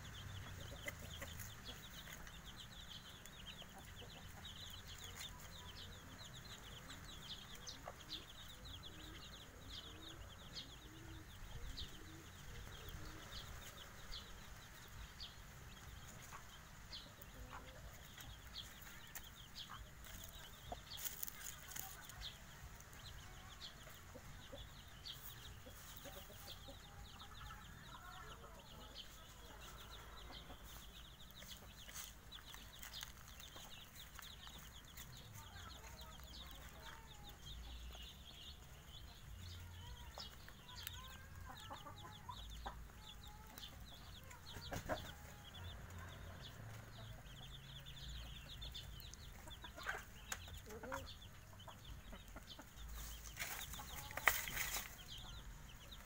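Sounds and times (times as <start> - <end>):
hen clucking: 0.0 - 14.3, 23.2 - 47.6, 48.2 - 56.0
chicks peeping: 0.0 - 56.0.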